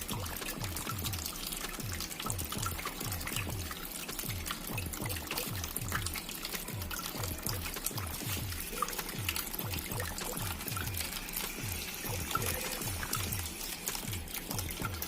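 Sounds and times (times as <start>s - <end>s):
background music with a beat: 0.0s - 15.0s
water trickling in a fountain: 0.0s - 15.0s.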